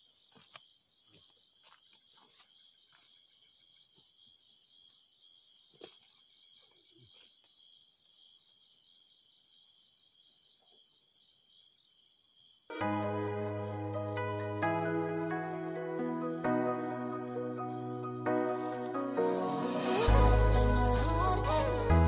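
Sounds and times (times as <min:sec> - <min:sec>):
night insects chirping: 0:00.0 - 0:22.0.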